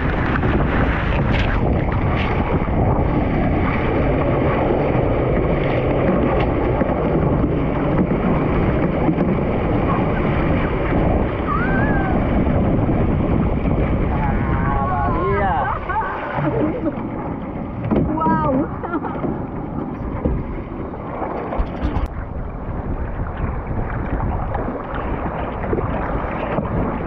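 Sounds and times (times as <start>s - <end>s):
water spray rushing along hull: 0.0s - 27.0s
wind buffeting microphone: 0.0s - 27.0s.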